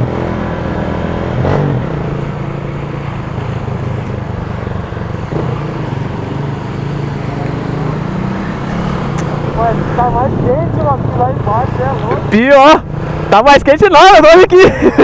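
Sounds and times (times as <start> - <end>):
motorcycle engine cruising: 0.0 - 14.4
wind and road noise: 0.0 - 15.0.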